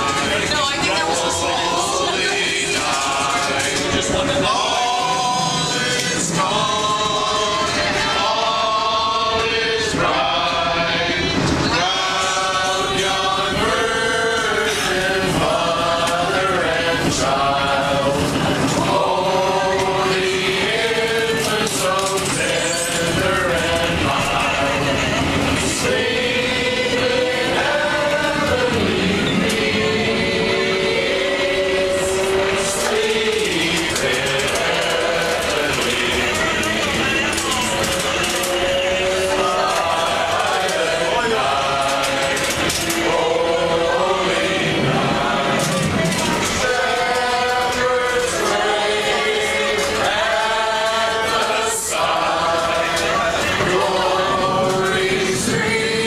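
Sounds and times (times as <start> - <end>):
group singing a carol: 0.0 - 56.0
streetcar rumble: 0.0 - 56.0.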